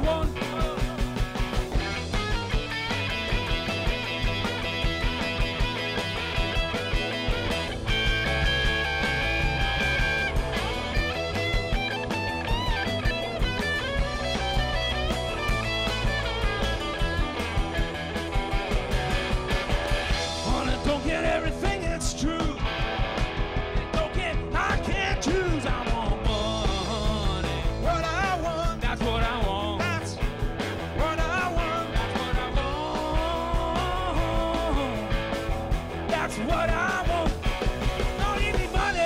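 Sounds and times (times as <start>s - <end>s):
electric guitar lead line bending: 0.0s - 39.0s
live rock band playing: 0.0s - 39.0s.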